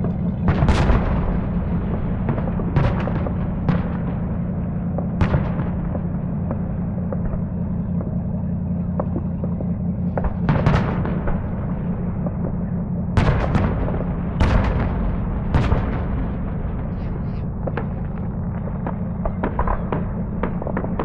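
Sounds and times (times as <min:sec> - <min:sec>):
continuous low rumble: 0:00.0 - 0:21.0.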